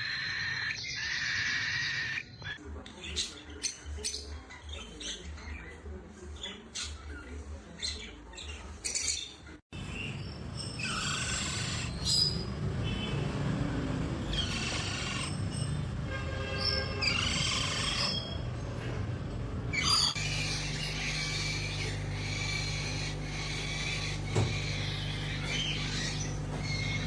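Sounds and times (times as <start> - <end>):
parrot chirping and squawking: 0.0 - 5.8, 6.7 - 13.2, 14.2 - 18.8, 19.7 - 27.0.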